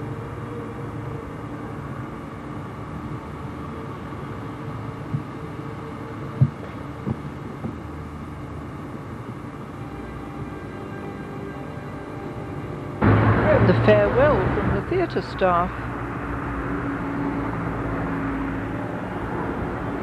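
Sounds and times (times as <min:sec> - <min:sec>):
low hum with held tones: 0:00.0 - 0:20.0.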